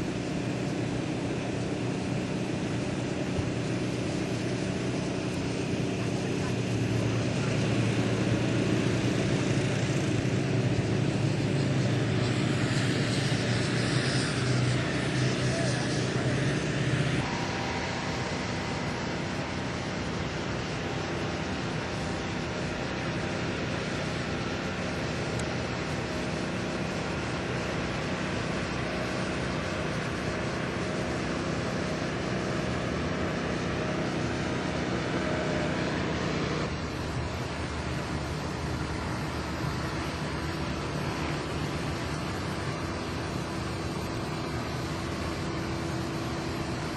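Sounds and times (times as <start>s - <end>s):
light aircraft engine and propeller: 0.0s - 46.9s.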